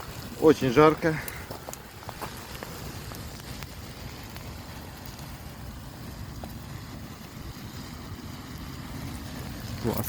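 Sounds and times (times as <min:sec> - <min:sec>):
faint sharp crackles: 0:00.0 - 0:10.0
matches burning: 0:00.0 - 0:10.0.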